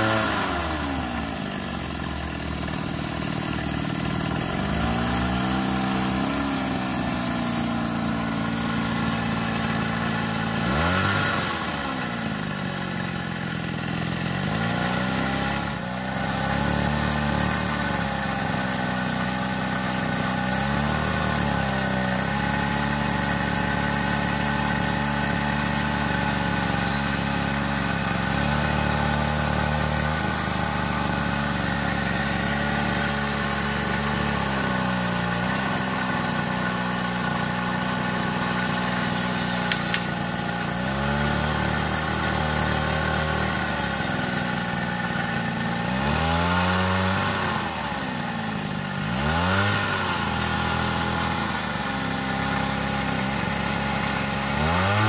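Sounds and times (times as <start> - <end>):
hydraulic pump drone: 0.0 - 55.0.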